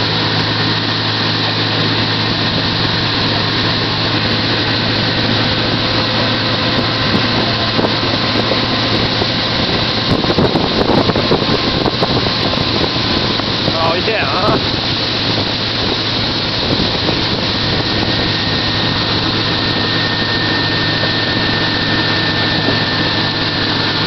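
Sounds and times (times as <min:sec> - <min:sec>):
motorboat engine running: 0:00.0 - 0:24.0
rush of boat wake: 0:00.0 - 0:24.0
wind buffeting microphone: 0:01.8 - 0:24.0.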